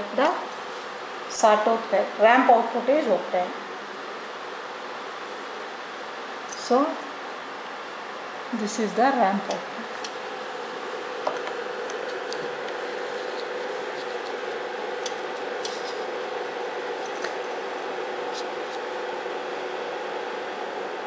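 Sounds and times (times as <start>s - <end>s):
room and equipment hum: 0.0s - 21.0s.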